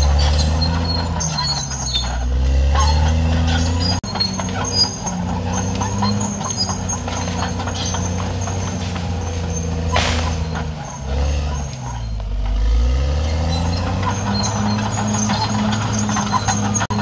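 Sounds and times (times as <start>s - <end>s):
bulldozer diesel engine: 0.0s - 17.0s.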